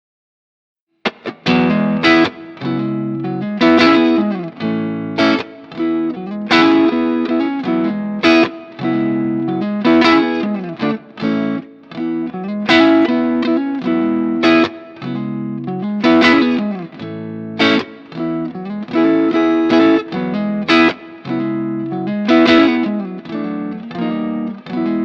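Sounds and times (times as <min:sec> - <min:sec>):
overdriven electric guitar chords: 0:01.0 - 0:25.0.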